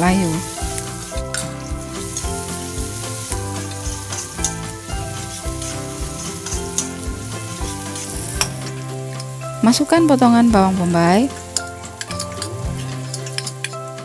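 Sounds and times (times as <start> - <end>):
background music: 0.0 - 14.0
oil sizzling in a wok: 0.0 - 14.0
metal spatula scraping pan: 0.2 - 9.6, 10.8 - 14.0.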